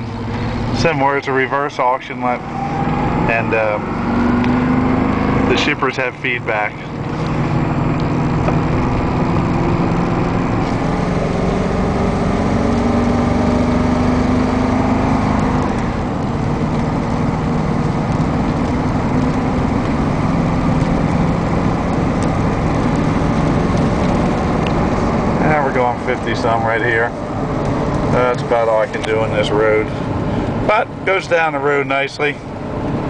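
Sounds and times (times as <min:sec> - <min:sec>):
truck engine and road noise: 0:00.0 - 0:33.0.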